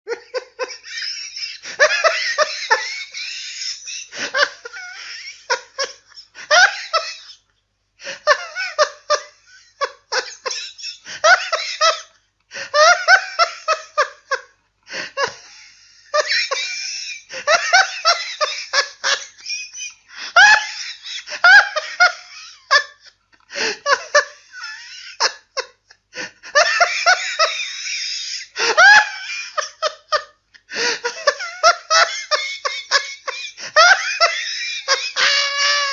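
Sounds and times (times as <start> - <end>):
man laughing hard: 0.1 - 35.9.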